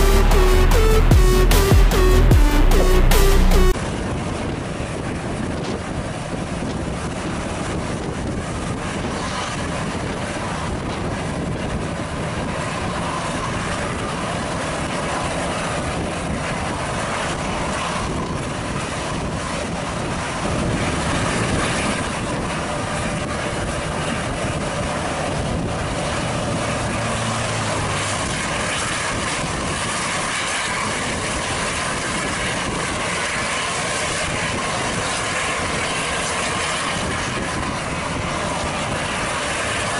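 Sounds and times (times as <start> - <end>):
low engine hum: 0.0 - 39.9
vehicle engine and road noise: 0.0 - 39.9.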